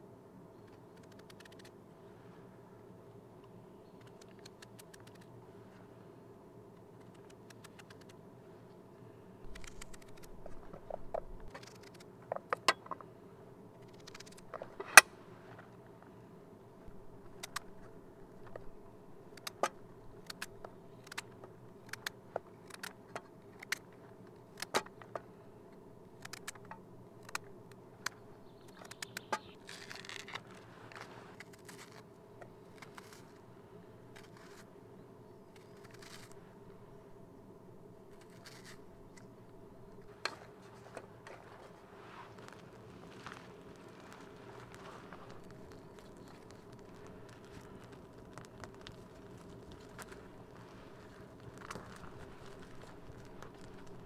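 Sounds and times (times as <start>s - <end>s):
faint steady hum: 0.0s - 54.0s
rustle: 0.0s - 54.0s.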